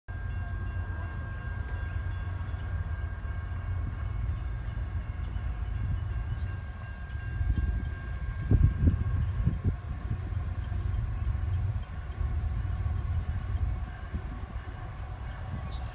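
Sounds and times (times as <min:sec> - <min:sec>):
freight train rumbling past: 0:00.1 - 0:15.9.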